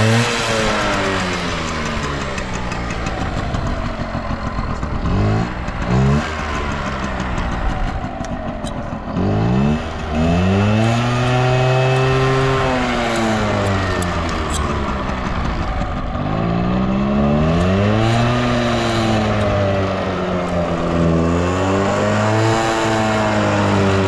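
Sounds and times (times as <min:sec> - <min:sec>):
scooter engine revving: 0:00.0 - 0:24.0.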